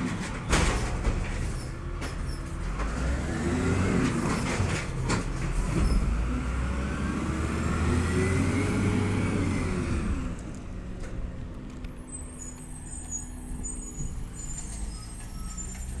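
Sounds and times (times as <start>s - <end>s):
diesel truck engine pulling away: 0.1s - 16.0s.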